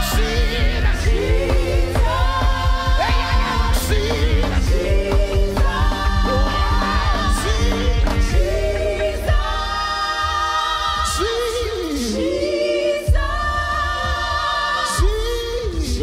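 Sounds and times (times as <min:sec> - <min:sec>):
gospel band with singing: 0:00.0 - 0:16.0.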